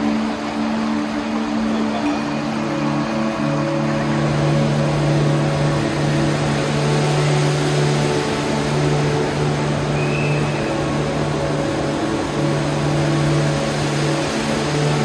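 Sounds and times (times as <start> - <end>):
steady low tones: 0.0 - 15.0
water rushing and falling: 0.0 - 15.0.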